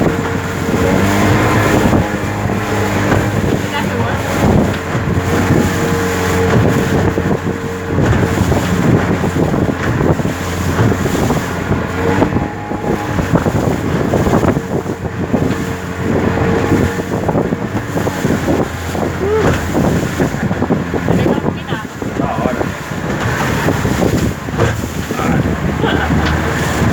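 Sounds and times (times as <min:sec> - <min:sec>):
motorboat engine running: 0:00.0 - 0:26.9
wind buffeting microphone: 0:00.0 - 0:26.9.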